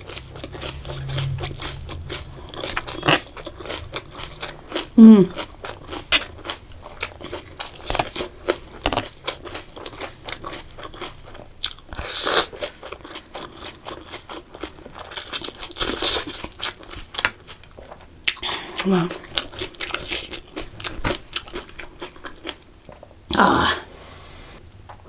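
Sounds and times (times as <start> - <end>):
person chewing crisp food: 0.0 - 23.3.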